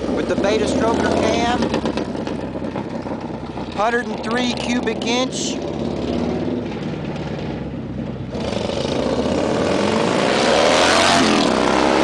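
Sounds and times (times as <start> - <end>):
motorcycle engine accelerating past: 0.0 - 4.2, 5.6 - 12.0.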